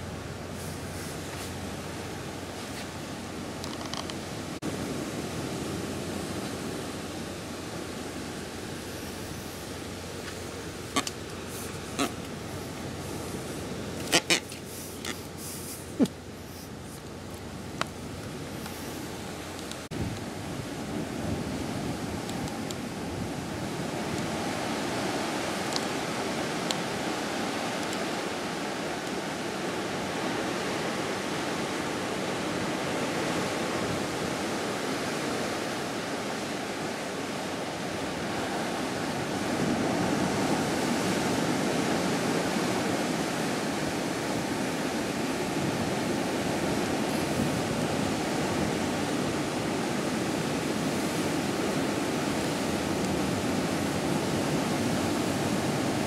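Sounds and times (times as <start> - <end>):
open sea rushing: 0.0 - 56.0
wind: 0.0 - 56.0.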